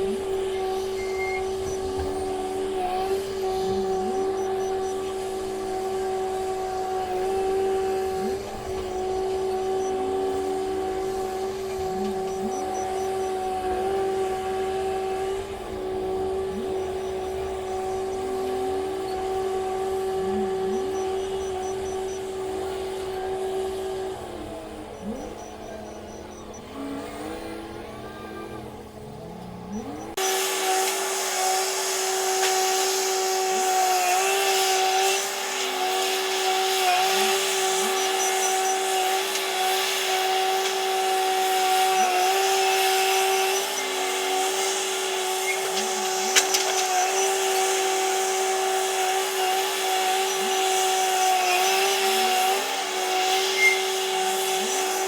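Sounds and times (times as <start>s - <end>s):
heavy machinery whine: 0.0s - 55.0s.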